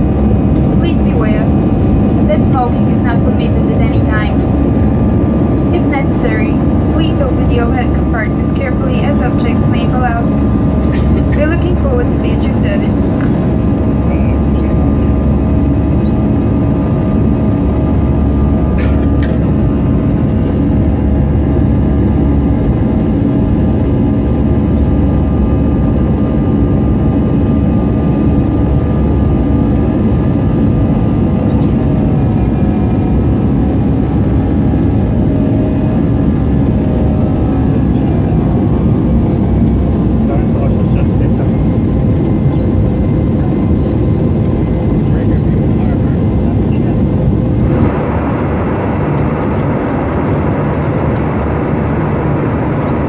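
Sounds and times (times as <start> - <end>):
jet engines humming: 0.0 - 53.0.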